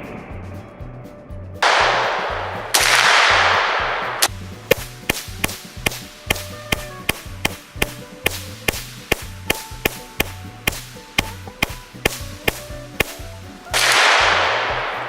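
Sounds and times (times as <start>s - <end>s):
background music with percussive beat: 0.0s - 15.0s.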